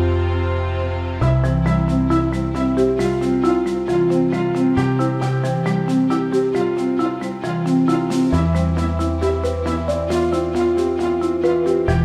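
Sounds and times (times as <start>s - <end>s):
mallet percussion music: 1.2s - 12.0s.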